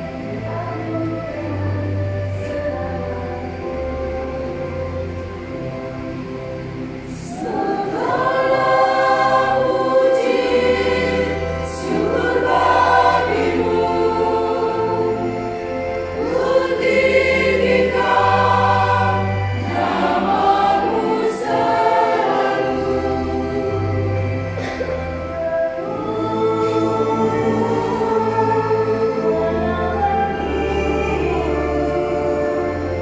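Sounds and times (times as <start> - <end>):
mixed choir singing: 0.0 - 33.0.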